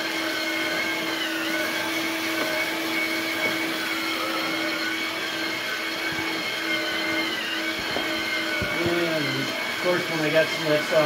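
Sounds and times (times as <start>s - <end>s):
small electric motors whining: 0.0s - 11.0s.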